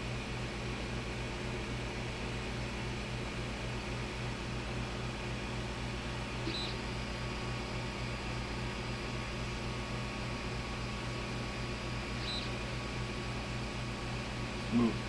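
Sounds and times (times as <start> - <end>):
cooling fans running: 0.0 - 15.0.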